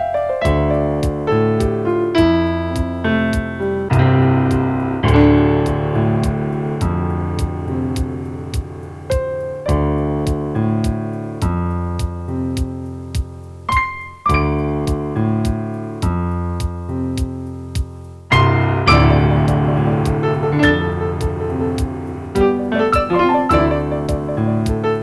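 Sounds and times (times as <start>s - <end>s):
electric piano chords: 0.0s - 25.0s
steady ticking beat: 0.5s - 25.0s.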